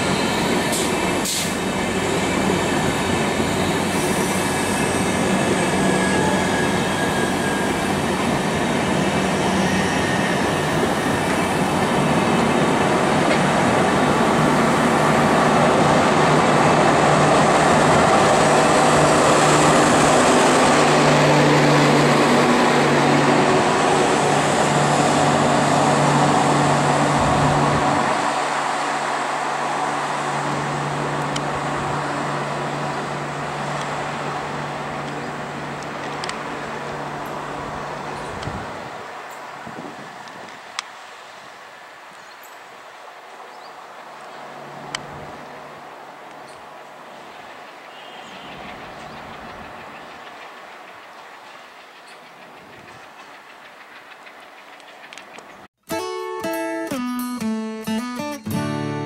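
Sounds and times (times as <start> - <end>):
train wheels rumbling on rail: 0.0 - 41.1, 46.3 - 55.8.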